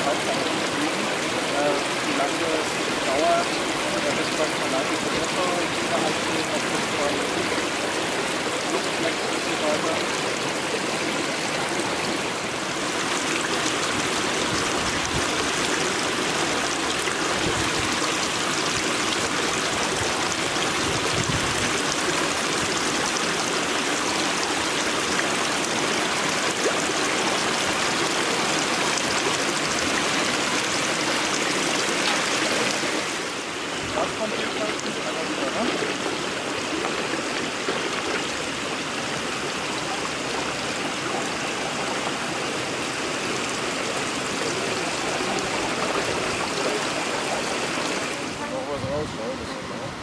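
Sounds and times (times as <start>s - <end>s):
water splashing into a pool: 0.0s - 48.4s.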